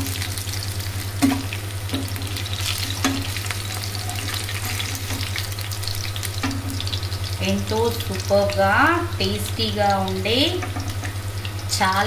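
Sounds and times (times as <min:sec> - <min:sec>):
fish sizzling in hot oil: 0:00.0 - 0:12.0
steady low hum: 0:00.0 - 0:12.0.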